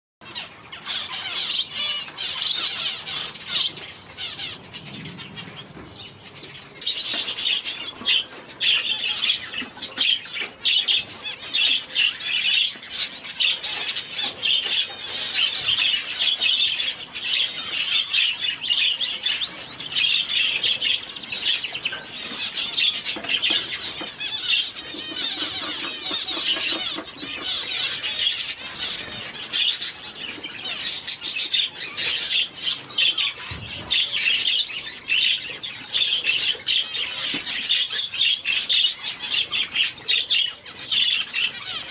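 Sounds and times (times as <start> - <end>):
finches chirping: 0.2 - 41.9.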